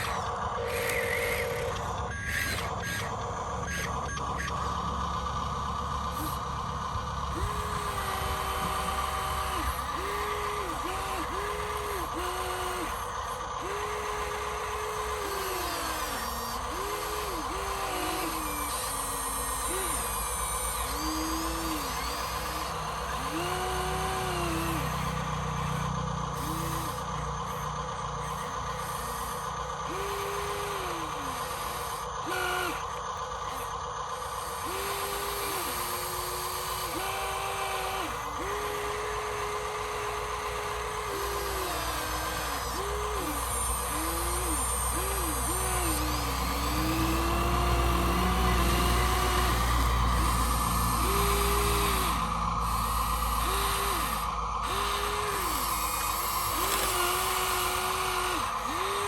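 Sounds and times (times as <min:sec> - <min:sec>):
electric motors whining: 0:00.0 - 0:59.0
steady hum: 0:00.0 - 0:59.0.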